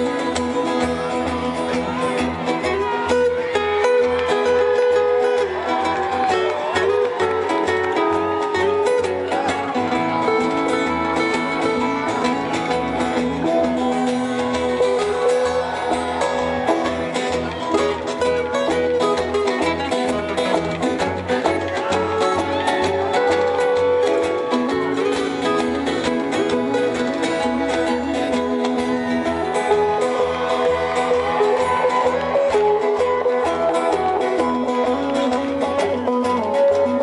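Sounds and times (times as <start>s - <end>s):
acoustic string band playing: 0.0s - 37.0s.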